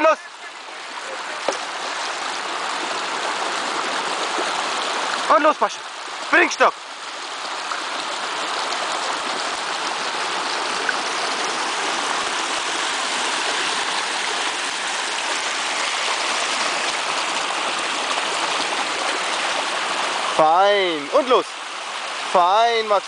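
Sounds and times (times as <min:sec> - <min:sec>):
stream rushing over stones: 0:00.0 - 0:23.0.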